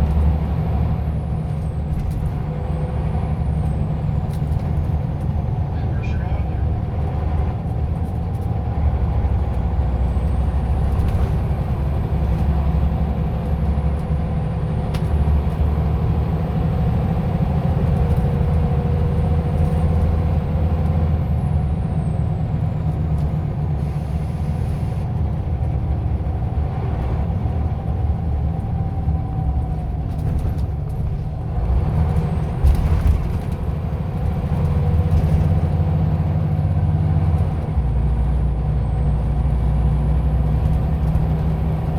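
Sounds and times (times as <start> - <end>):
bus engine rumbling: 0.0 - 41.9.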